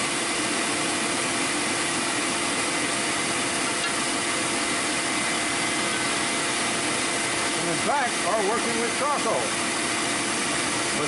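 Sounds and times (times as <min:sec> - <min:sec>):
air blowing into forge fire: 0:00.0 - 0:11.0.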